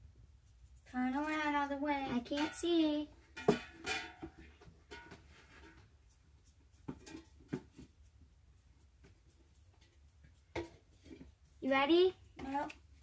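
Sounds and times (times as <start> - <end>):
faint clicks and rustles: 0.4 - 11.6.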